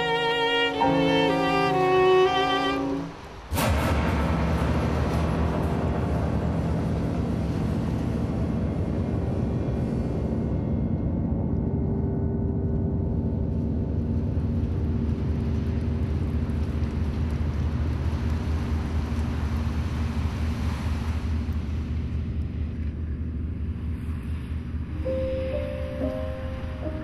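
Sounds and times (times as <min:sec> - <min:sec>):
low droning film score: 0:00.0 - 0:27.0
heavy bass rumble: 0:03.5 - 0:25.8.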